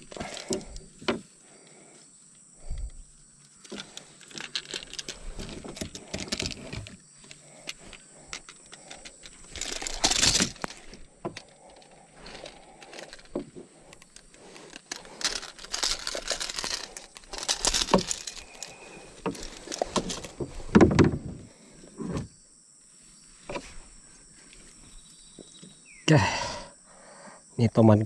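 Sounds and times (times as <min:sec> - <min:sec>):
rustling and scraping: 0:00.0 - 0:25.8.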